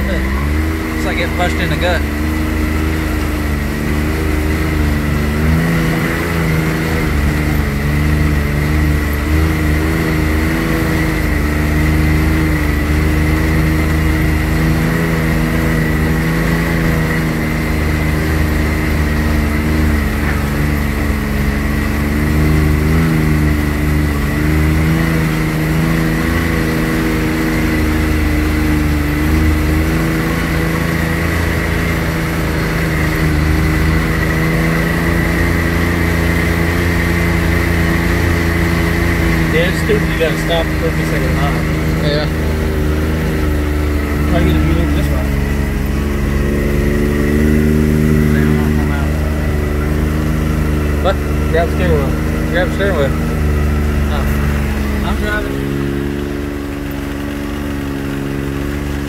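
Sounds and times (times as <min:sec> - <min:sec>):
high whine: 0:00.0 - 0:59.0
vehicle engine running: 0:00.0 - 0:59.0.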